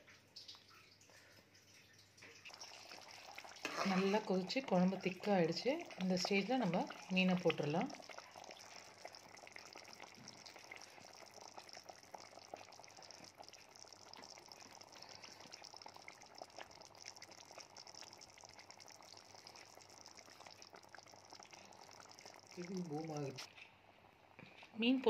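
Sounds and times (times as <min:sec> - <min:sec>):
curry bubbling in a pot: 0:00.0 - 0:25.0.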